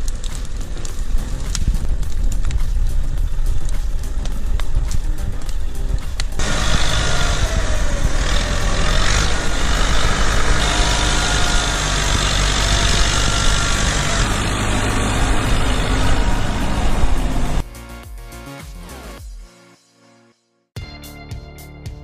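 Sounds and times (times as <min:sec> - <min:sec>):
tractor engine running under load: 0:00.0 - 0:17.6.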